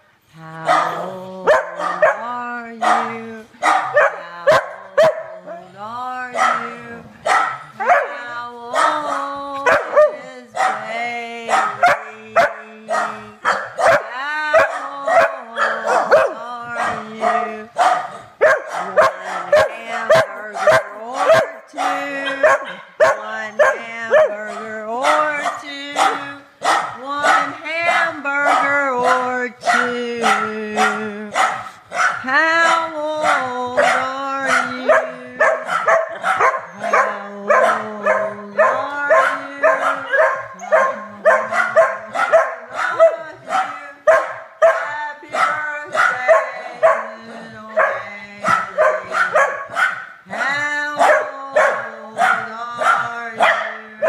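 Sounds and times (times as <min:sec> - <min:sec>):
dog barking and yipping: 0:00.6 - 0:05.7, 0:06.4 - 0:53.8.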